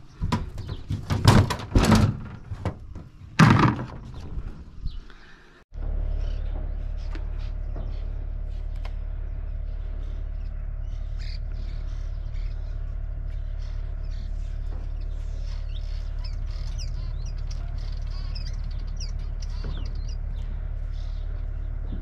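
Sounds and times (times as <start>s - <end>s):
small birds chirping: 0.0s - 3.3s, 3.9s - 22.0s
steady low rumble: 0.0s - 22.0s.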